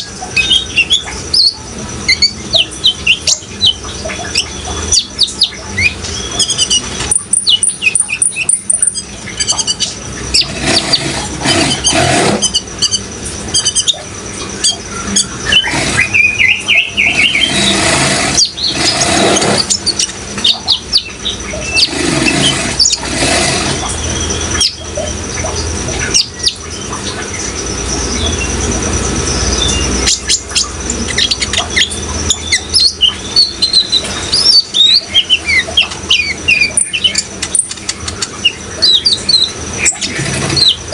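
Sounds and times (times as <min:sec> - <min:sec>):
bird chirps and trills: 0:00.0 - 0:40.9
running water: 0:00.0 - 0:40.9.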